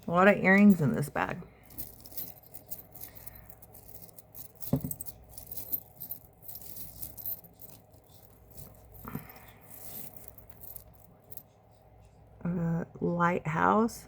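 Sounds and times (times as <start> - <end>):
jewelry clinking and jangling: 0.0 - 11.6.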